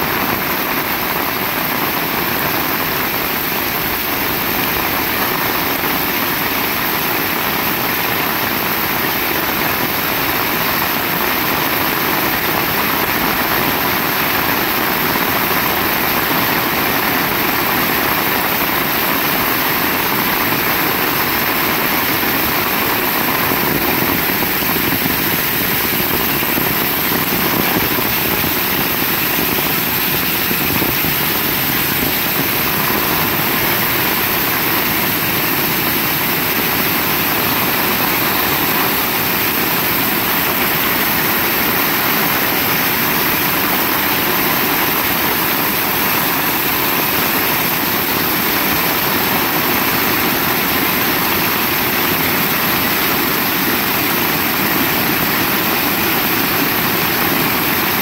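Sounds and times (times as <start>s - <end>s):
heavy rain downpour: 0.0s - 58.0s.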